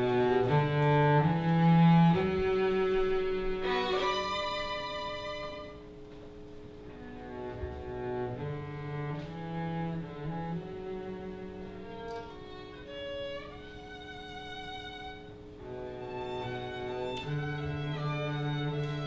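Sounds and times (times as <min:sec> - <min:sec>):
bowed string ensemble: 0:00.0 - 0:05.9, 0:06.8 - 0:19.0.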